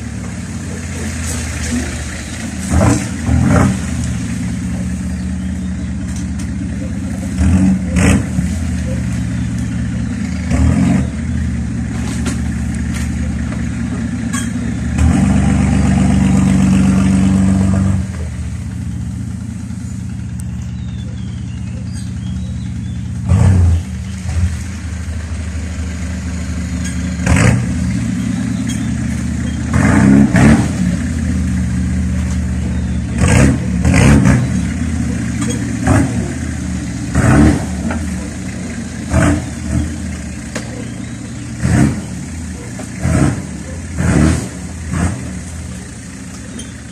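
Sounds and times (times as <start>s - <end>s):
car engine idling: 0.0s - 46.9s
engine throttle blips: 0.0s - 46.9s.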